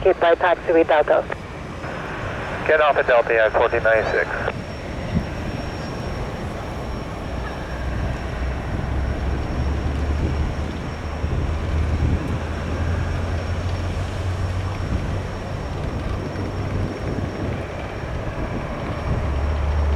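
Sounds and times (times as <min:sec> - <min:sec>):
jet engines rumbling: 0:00.0 - 0:19.9.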